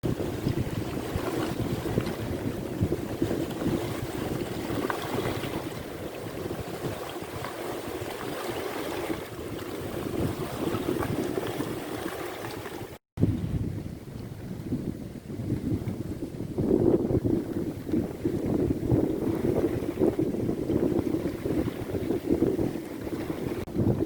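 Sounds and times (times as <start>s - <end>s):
sea waves washing: 0.0s - 13.0s, 15.0s - 24.0s
wind buffeting microphone: 0.0s - 24.0s.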